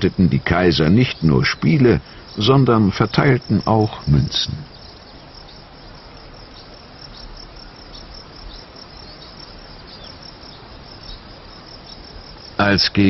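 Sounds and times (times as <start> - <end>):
crickets chirping: 0.0 - 13.0
steady background hiss: 0.0 - 13.0.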